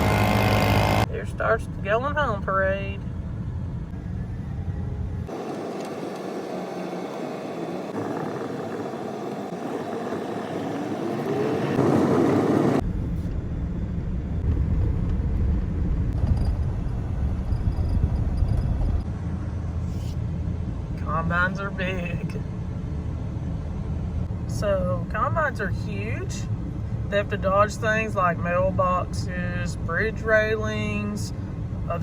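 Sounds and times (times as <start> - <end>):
road rumble: 0.0 - 32.0
vehicle engines: 0.0 - 32.0.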